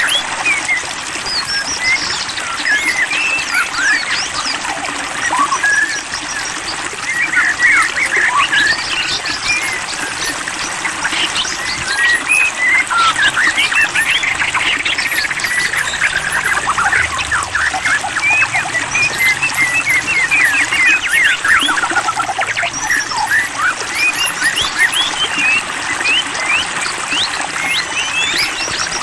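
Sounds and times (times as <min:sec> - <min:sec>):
bird singing chirps and whistles: 0:00.0 - 0:29.0
trickling water: 0:00.0 - 0:29.0.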